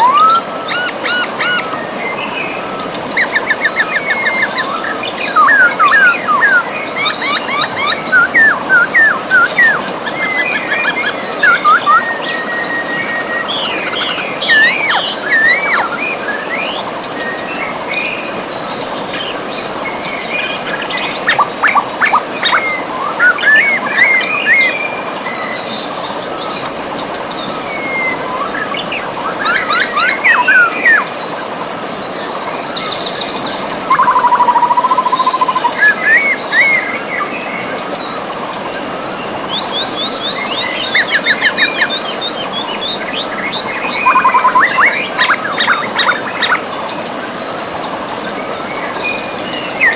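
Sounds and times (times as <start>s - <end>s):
river running water: 0.0s - 49.9s
songbirds chirping: 0.0s - 49.9s.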